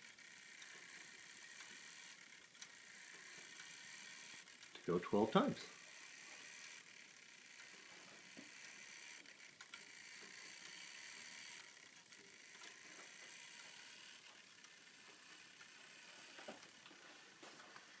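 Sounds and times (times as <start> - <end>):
faint clock movement clicks: 0.0 - 18.0.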